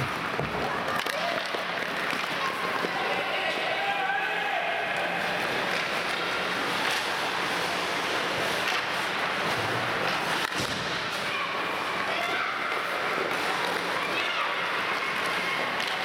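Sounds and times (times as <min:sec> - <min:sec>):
hockey sticks and puck clacking: 0:00.0 - 0:03.8, 0:04.8 - 0:16.0
skates rushing on ice: 0:00.0 - 0:16.0.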